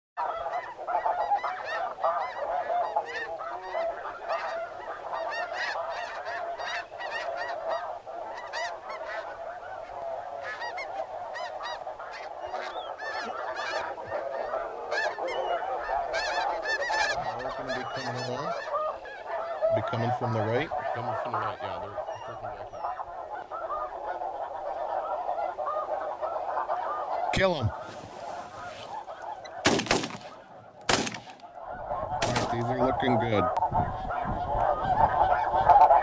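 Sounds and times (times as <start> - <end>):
geese honking: 0.2 - 36.0.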